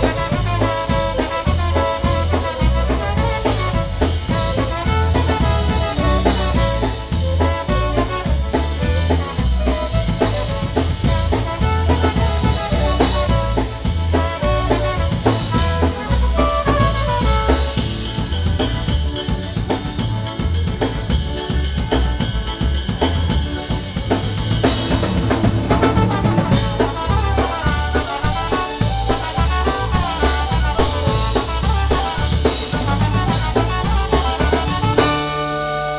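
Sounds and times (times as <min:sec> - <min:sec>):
clarinet: 0:00.0 - 0:19.7, 0:24.6 - 0:35.9
trumpet: 0:00.0 - 0:20.6, 0:22.2 - 0:35.9
drum kit beat: 0:00.0 - 0:35.9
electric bass: 0:00.0 - 0:35.9.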